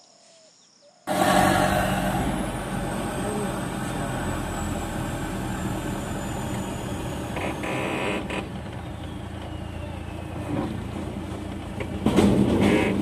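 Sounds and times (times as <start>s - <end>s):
vehicle engine and road hum: 1.1s - 13.0s.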